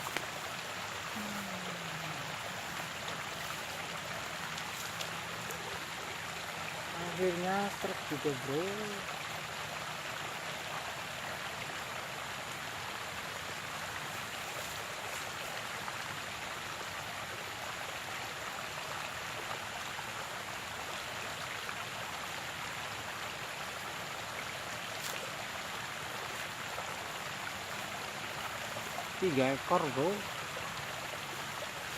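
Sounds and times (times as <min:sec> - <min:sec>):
stream water rushing: 0:00.0 - 0:31.9.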